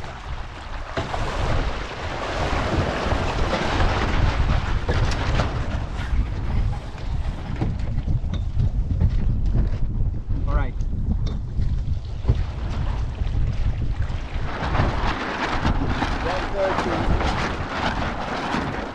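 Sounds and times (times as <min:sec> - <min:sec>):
water rushing along hull: 0:00.0 - 0:18.9
wind buffeting microphone: 0:00.0 - 0:18.9.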